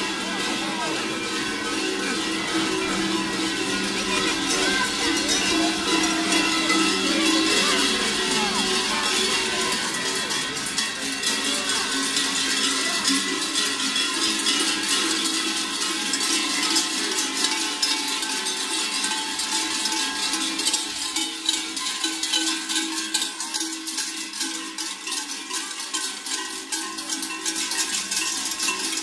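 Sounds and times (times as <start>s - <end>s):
large cowbells clanging: 0.0s - 29.0s.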